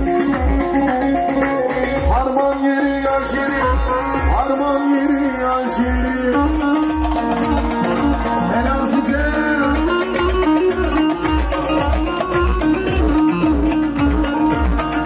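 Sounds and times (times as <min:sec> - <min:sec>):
plucked lute melody: 0:00.0 - 0:04.4, 0:05.2 - 0:15.0.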